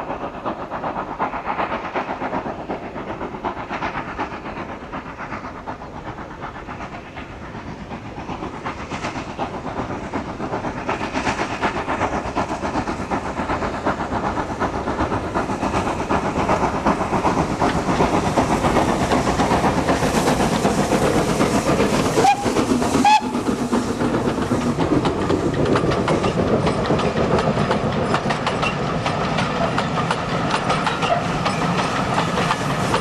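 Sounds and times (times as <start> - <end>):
steam locomotive exhaust beats: 0.0 - 33.0.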